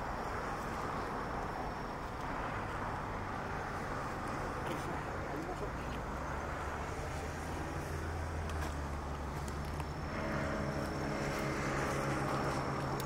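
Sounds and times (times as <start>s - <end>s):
low engine hum: 0.0s - 13.0s
second engine droning: 1.0s - 13.0s.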